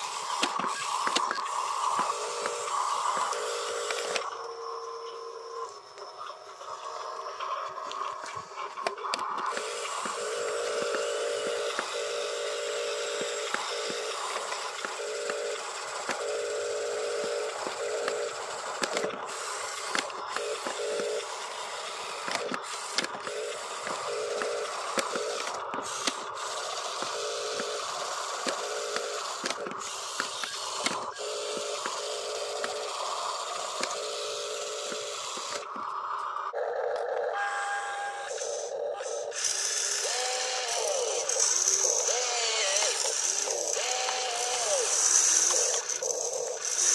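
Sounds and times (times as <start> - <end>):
small electric motors whining: 0.0 - 46.9.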